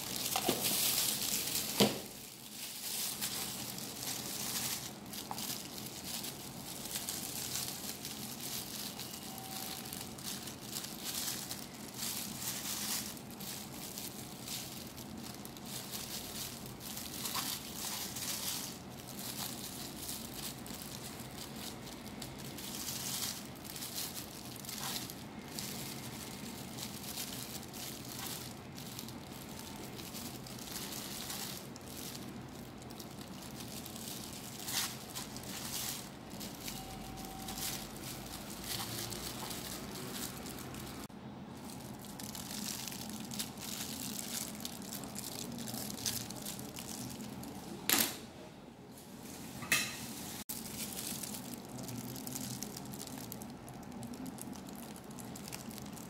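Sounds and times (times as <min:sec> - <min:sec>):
gloved hand handling food: 0:00.0 - 0:47.6, 0:50.2 - 0:56.0
steady kitchen hiss: 0:00.0 - 0:56.0.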